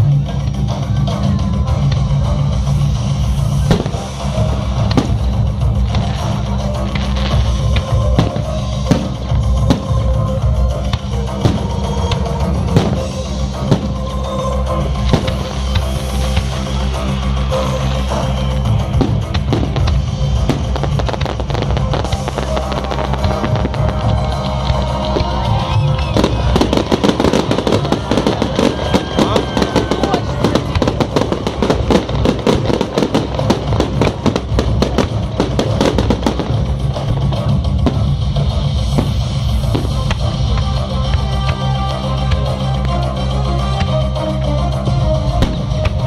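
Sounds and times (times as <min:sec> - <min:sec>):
loud rock music with drums: 0:00.0 - 0:46.0
fireworks crackling: 0:01.8 - 0:44.2, 0:44.8 - 0:46.0.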